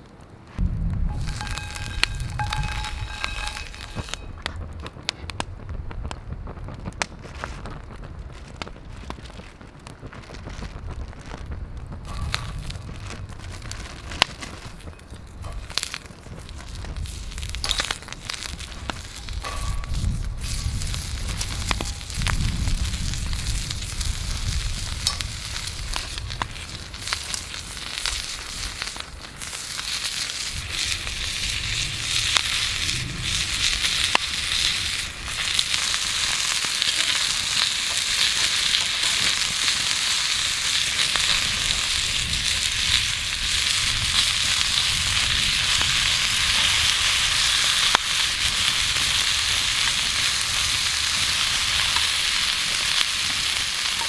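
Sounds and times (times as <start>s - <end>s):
small pops and crackles: 0.0s - 54.0s
steak sizzling: 0.5s - 4.8s, 10.2s - 54.0s.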